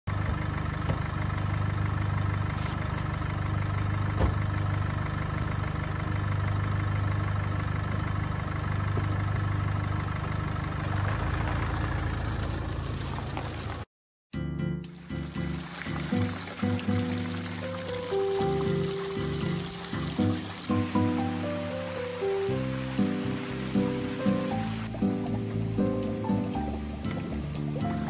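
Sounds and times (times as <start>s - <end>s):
car engine idling: 0.1s - 13.8s, 15.0s - 28.0s.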